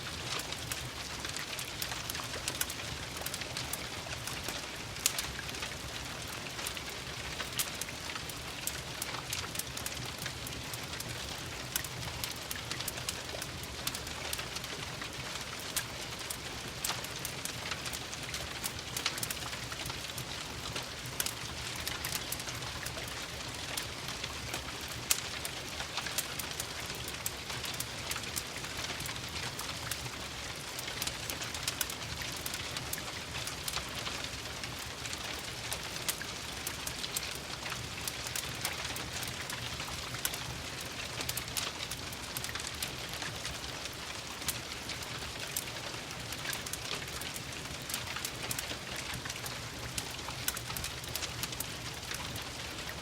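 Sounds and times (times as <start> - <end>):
crackling wood fire: 0.0 - 53.0.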